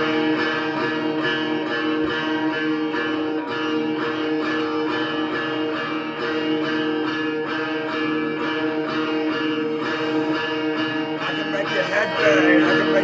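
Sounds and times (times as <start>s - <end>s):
heavy metal guitar chords: 0.0s - 13.0s.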